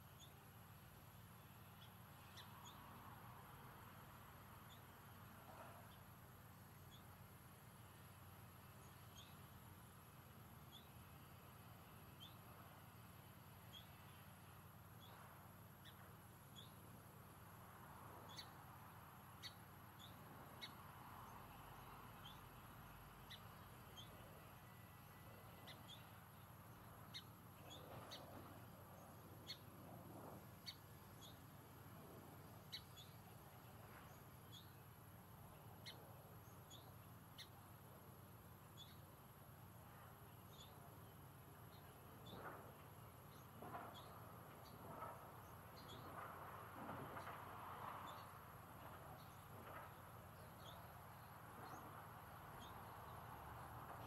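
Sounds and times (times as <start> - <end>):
small bird chirping: 0.0 - 0.5, 1.4 - 3.4, 4.6 - 6.1, 6.7 - 7.2, 8.6 - 9.5, 10.6 - 11.2, 11.8 - 12.8, 13.6 - 14.3, 14.9 - 16.9, 18.2 - 54.0
faint garden ambience: 0.0 - 54.0.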